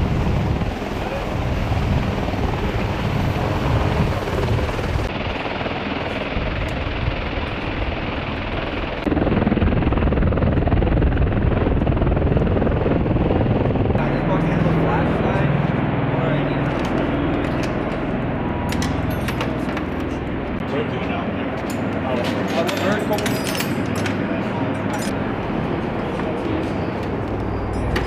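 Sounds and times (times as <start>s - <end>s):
helicopter rotor and turbine din: 0.0s - 28.0s.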